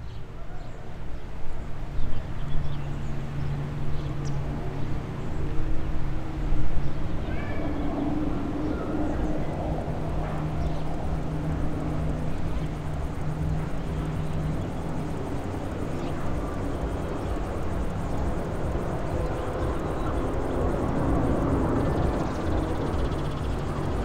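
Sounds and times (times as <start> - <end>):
airliner engines droning overhead: 0.0 - 24.0.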